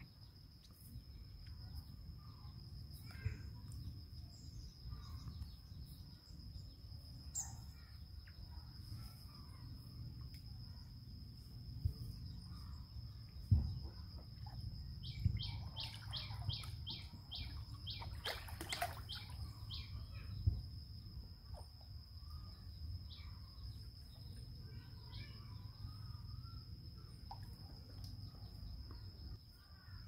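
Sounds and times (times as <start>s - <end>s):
outdoor hum: 0.0s - 30.0s.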